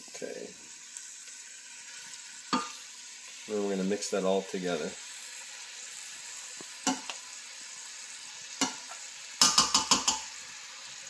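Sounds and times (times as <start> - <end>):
meat and vegetables sizzling in oil: 0.0 - 11.0.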